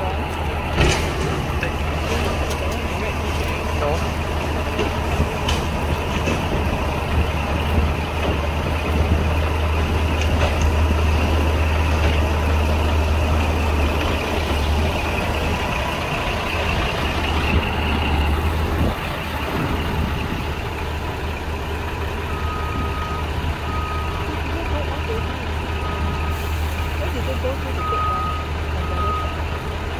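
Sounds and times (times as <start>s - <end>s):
diesel engine drone: 0.0s - 29.9s.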